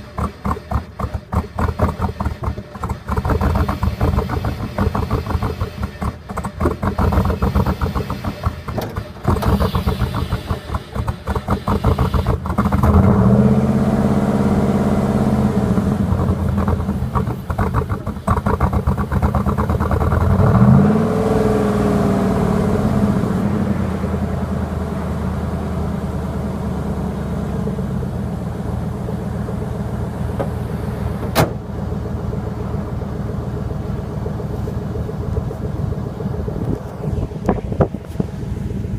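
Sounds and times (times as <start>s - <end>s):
truck engine through loud exhaust: 0.0s - 38.9s.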